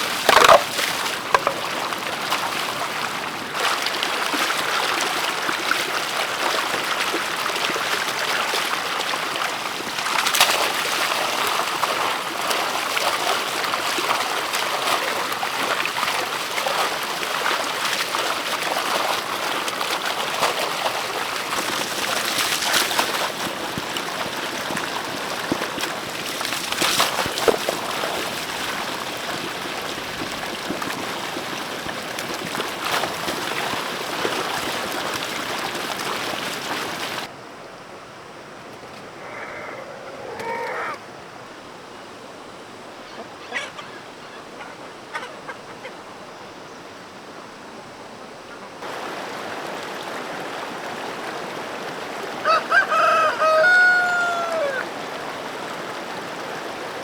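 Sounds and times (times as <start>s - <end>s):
running water: 0.0s - 39.2s, 46.9s - 57.0s.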